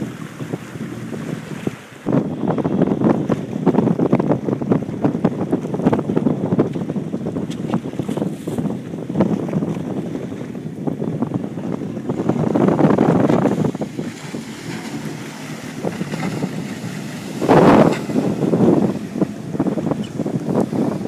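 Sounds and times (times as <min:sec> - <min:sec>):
rushing splashing water: 0:00.0 - 0:06.1, 0:07.2 - 0:21.0
wind buffeting microphone: 0:00.0 - 0:21.0.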